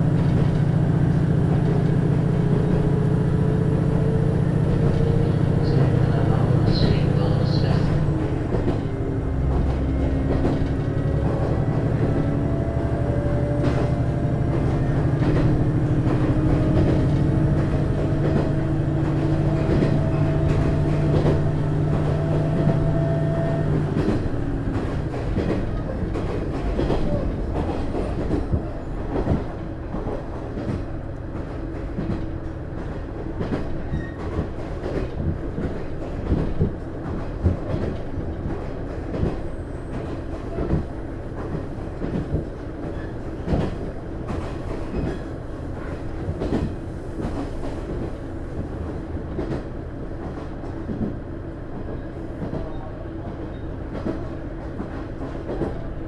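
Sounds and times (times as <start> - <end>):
diesel railcar engine: 0.0 - 56.0
train running hum: 0.0 - 56.0.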